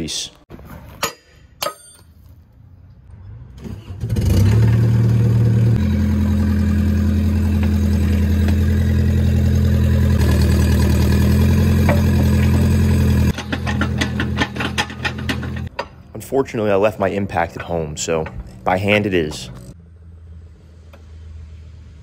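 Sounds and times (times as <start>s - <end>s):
diesel engine starting and running: 3.0s - 22.0s.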